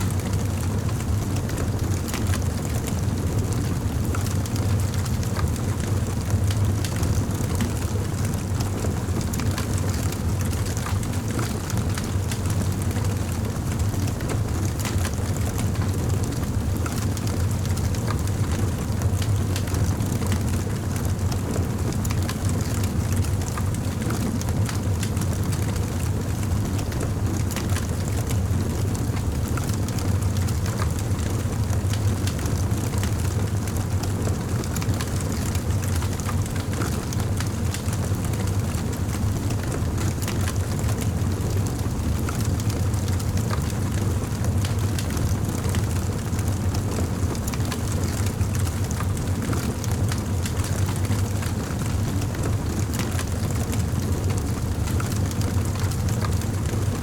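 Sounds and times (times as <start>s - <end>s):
fire low rumble: 0.1s - 57.0s.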